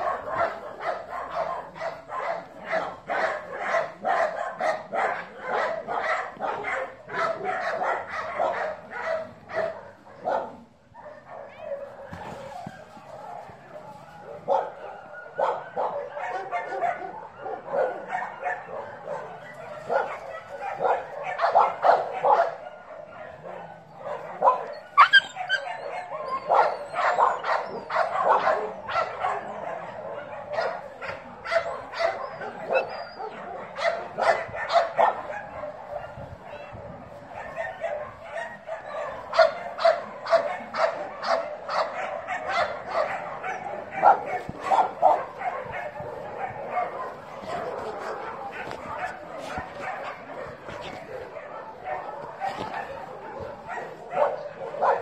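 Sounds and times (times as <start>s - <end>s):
dog barking and yipping: 0.0s - 55.0s.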